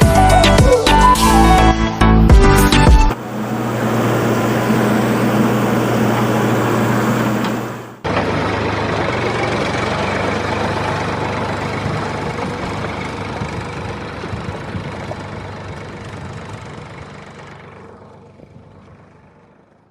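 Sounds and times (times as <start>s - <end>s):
engine humming: 0.0s - 19.9s
rough noisy engine: 0.0s - 19.9s.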